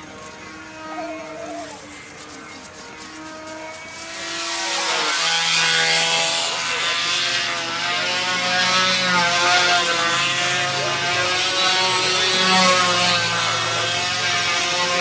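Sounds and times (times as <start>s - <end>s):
model aircraft engine running: 0.0s - 15.0s.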